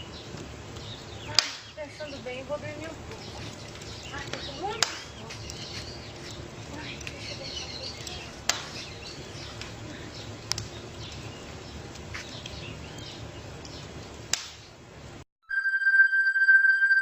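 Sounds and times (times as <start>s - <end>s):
campfire crackling and popping: 0.0s - 15.2s
outdoor hiss: 0.0s - 15.2s.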